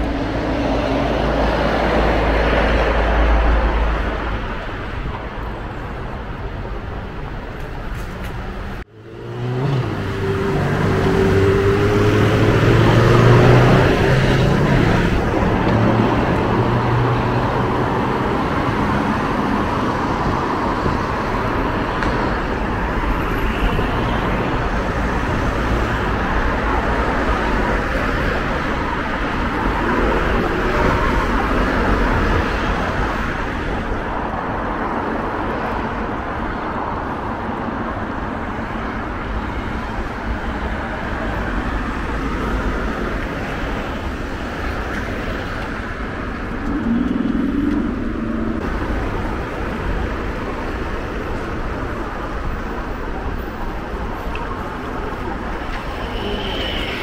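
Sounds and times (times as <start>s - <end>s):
passing cars: 0.0s - 57.0s.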